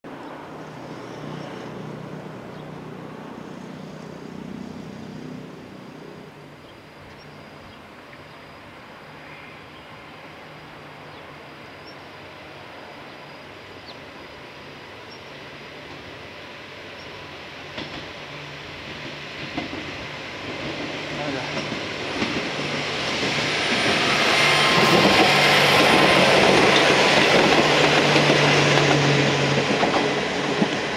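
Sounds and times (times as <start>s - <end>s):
rail and wheel noise: 0.0s - 30.9s
open-air background noise: 0.1s - 30.9s.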